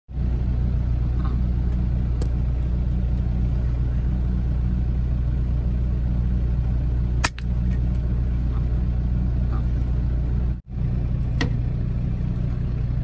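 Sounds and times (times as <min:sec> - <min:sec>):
low engine drone: 0:00.1 - 0:13.0.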